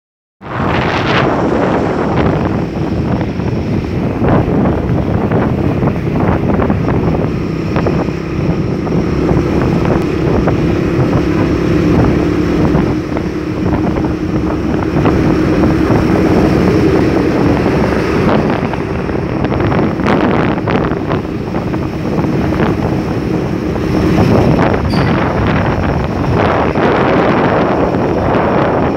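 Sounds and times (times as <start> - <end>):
engine hum: 0.4 - 28.9
road traffic noise: 0.4 - 28.9
wind buffeting microphone: 0.4 - 28.9.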